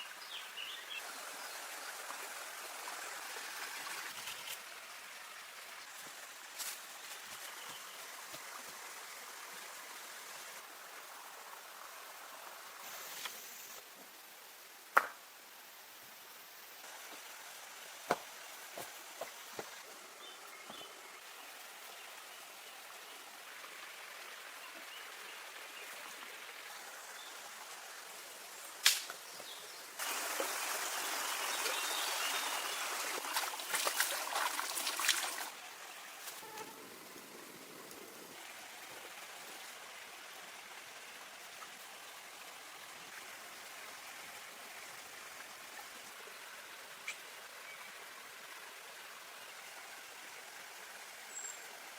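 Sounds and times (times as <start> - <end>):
water flowing: 0.0 - 14.8, 16.6 - 51.9.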